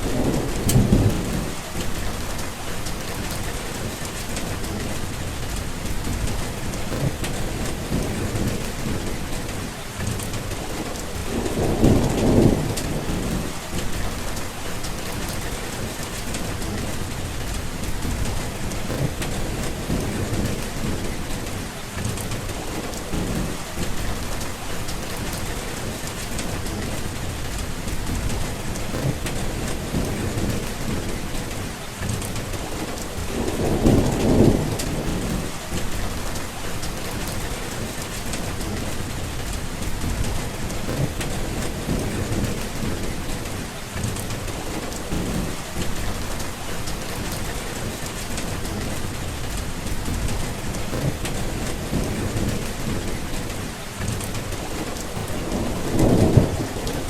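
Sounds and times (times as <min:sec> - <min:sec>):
steady rain: 0:00.0 - 0:57.0
thunder rolling: 0:00.0 - 0:57.0.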